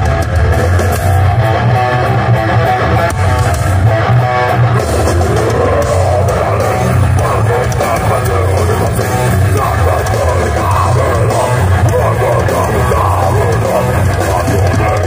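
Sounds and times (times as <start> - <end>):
bass guitar: 0.0 - 15.0
distorted electric guitar: 0.0 - 15.0
drum kit: 0.0 - 15.0.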